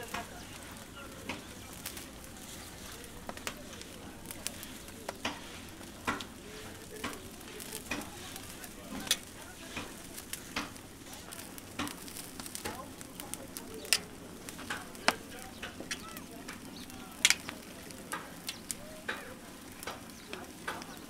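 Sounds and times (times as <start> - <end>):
porridge bubbling clicks and pops: 0.0 - 21.0
steady hiss: 0.0 - 21.0
stick stirring pot: 0.0 - 21.0.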